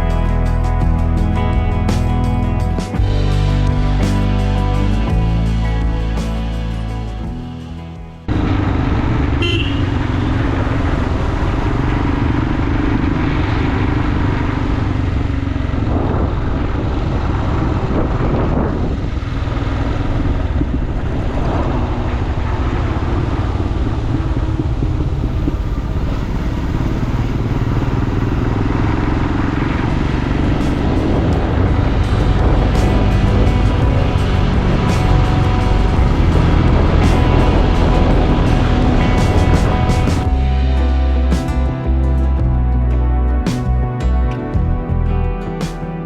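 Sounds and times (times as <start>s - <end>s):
motorcycle engine running: 0.0s - 42.8s
wind and road noise: 0.0s - 46.0s.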